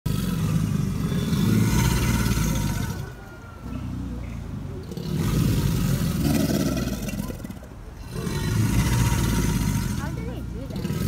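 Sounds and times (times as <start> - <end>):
alligators bellowing: 0.1 - 11.0.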